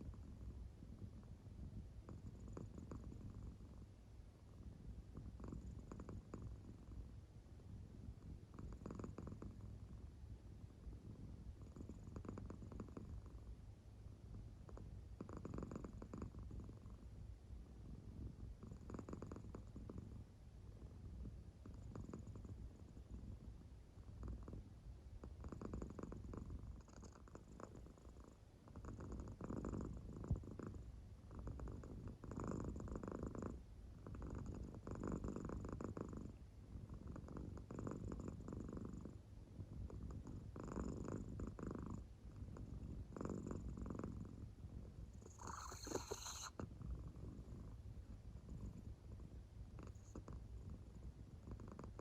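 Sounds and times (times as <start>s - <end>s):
cat purring softly: 0.0s - 52.0s.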